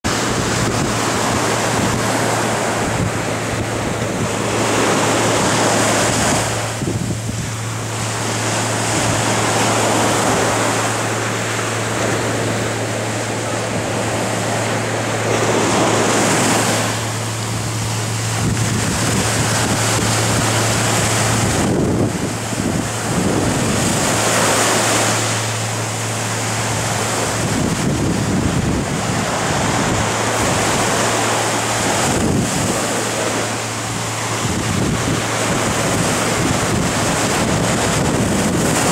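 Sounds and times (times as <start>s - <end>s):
steady low hum: 0.0s - 38.9s
surf breaking on a beach: 0.0s - 38.9s.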